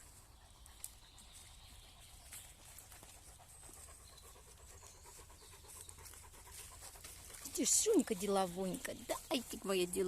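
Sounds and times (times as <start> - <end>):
dog panting: 0.0 - 9.7.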